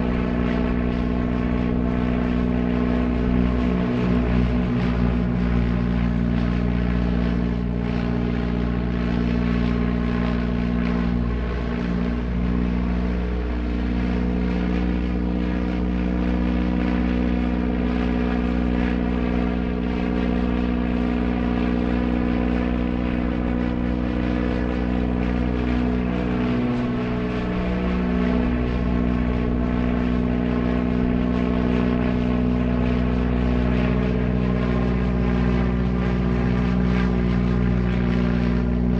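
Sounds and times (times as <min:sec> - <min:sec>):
propeller airplane engine drone: 0:00.0 - 0:38.9.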